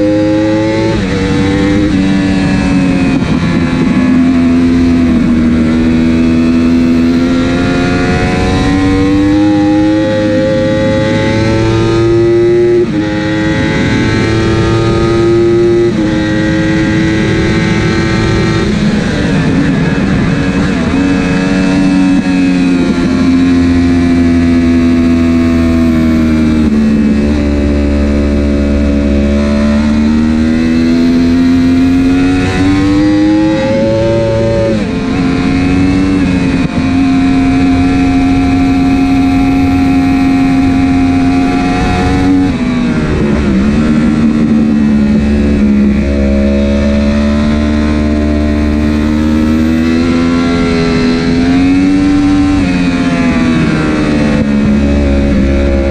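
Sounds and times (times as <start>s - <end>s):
racing motorcycle engine under load: 0.0s - 55.9s.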